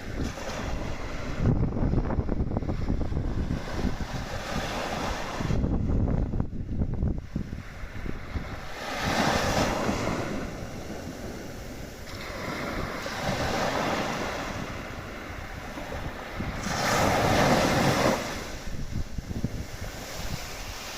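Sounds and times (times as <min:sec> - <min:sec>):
sea waves washing in: 0:00.0 - 0:20.9
wind buffeting microphone: 0:00.0 - 0:20.9.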